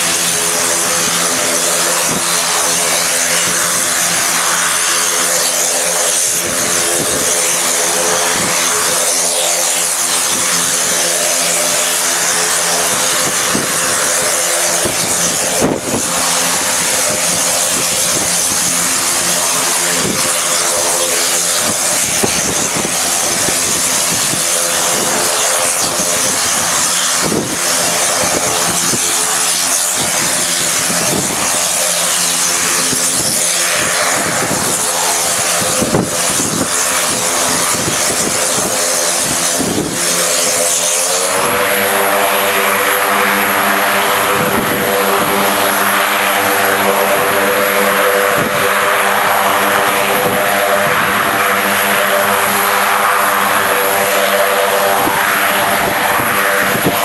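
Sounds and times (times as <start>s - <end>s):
turboprop engine drone: 0.0s - 57.0s.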